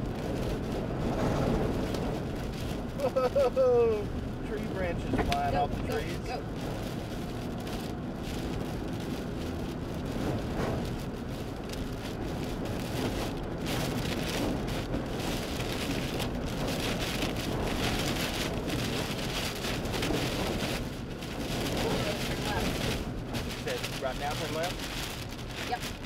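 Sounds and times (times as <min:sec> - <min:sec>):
gusting wind: 0:00.0 - 0:26.0
heavy rain pelting a vehicle: 0:00.0 - 0:26.0.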